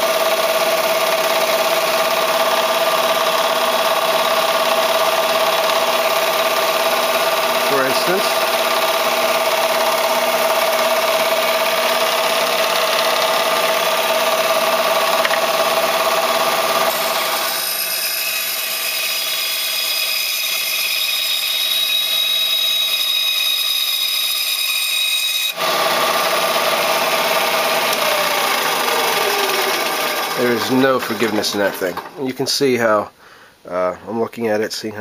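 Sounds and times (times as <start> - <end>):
bandsaw cutting wood: 0.0 - 32.3
bandsaw running hum: 0.0 - 32.5.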